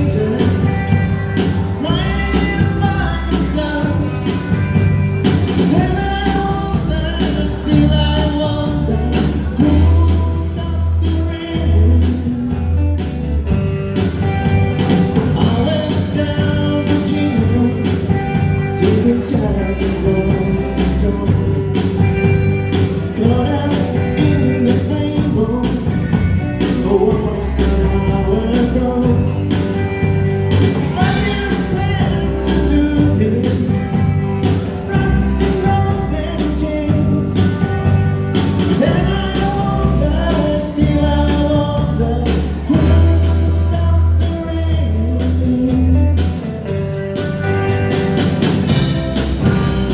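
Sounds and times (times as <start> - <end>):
man singing: 0.0 - 14.2, 14.8 - 47.0
bass guitar: 0.0 - 49.9
drum kit beat: 0.0 - 49.9
electric guitars: 0.0 - 49.9.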